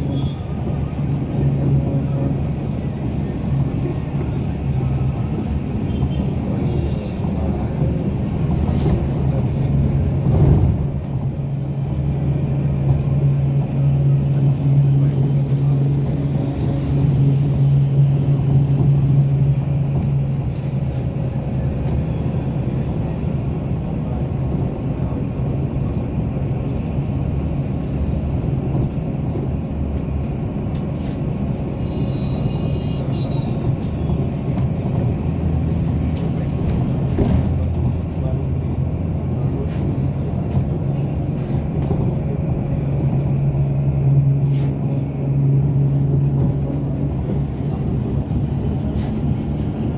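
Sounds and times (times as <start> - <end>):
low engine hum: 0.0 - 49.9
vehicle rumble from inside: 0.0 - 49.9.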